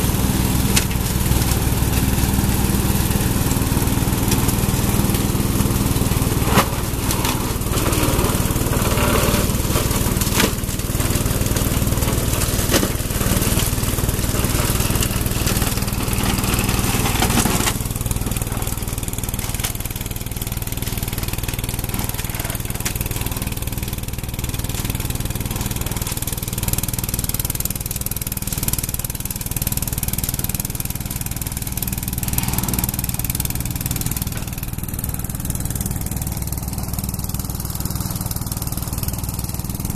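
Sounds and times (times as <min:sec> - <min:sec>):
riding mower engine running: 0:00.0 - 0:39.9
branches cracking and shredding: 0:00.5 - 0:39.9.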